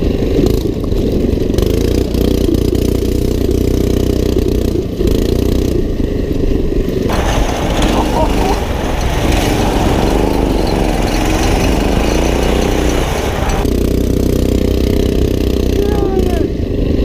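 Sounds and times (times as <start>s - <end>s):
go-kart engine under load: 0.0s - 17.0s.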